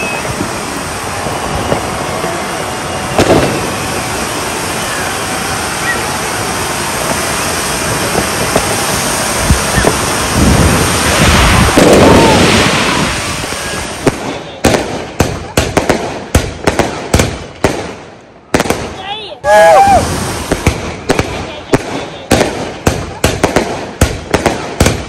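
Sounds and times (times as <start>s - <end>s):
firework bangs and cracks: 0.0s - 25.0s
firework fountain hissing: 0.0s - 25.0s.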